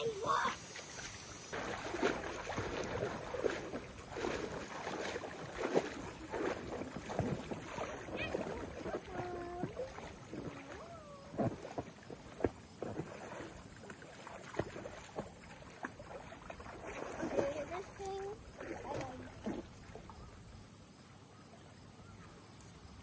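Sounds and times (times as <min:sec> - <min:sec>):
paddle strokes splashing water: 0:00.2 - 0:20.6
water dripping: 0:00.8 - 0:20.1.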